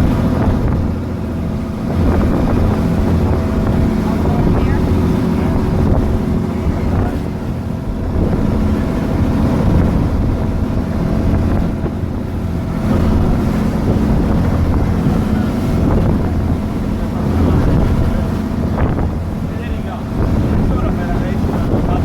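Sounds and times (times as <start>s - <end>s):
boat engine running: 0.0s - 22.0s
water rushing along hull: 0.0s - 22.0s
wind buffeting microphone: 0.0s - 22.0s.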